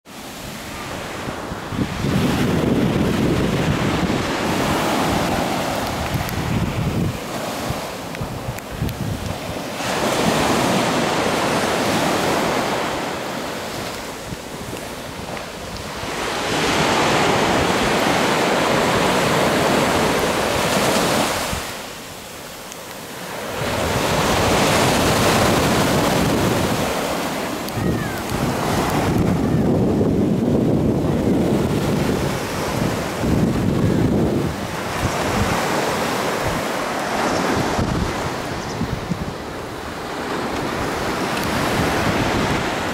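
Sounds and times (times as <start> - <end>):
sea waves breaking on beach: 0.1 - 42.9
wind rumbling on microphone: 0.2 - 42.9.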